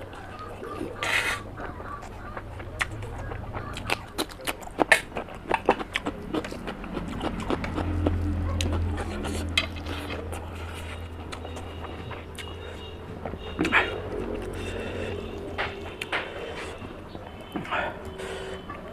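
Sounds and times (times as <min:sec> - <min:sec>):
crunching and chewing cucumber: 0:00.0 - 0:18.7.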